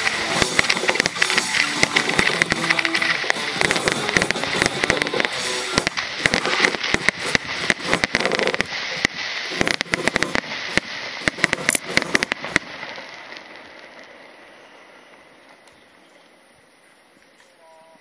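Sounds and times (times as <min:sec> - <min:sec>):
fireworks crackling and banging: 0:00.0 - 0:16.1.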